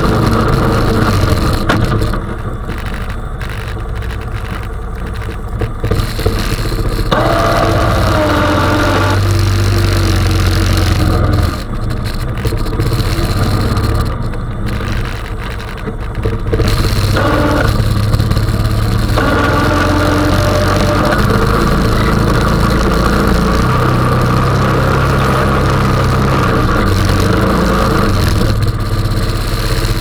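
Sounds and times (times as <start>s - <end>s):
atv engine under load: 0.0s - 30.0s.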